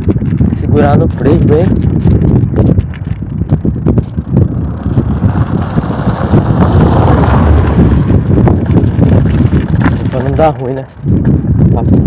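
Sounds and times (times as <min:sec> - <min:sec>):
bike jolting and rattling: 0:00.0 - 0:12.0
wind buffeting microphone: 0:00.0 - 0:12.0.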